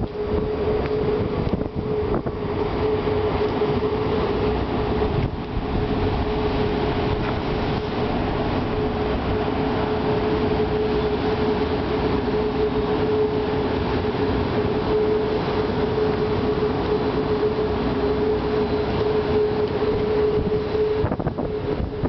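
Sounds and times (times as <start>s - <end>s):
machinery drone: 0.0s - 22.0s.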